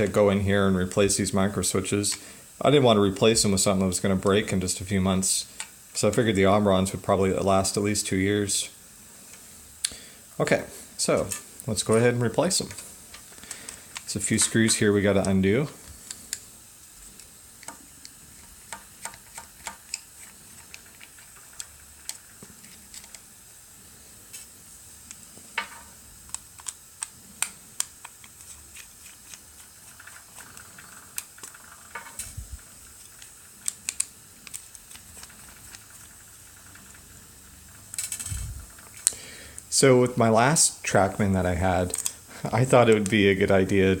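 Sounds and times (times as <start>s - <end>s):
faint steady hiss: 0.0s - 44.0s.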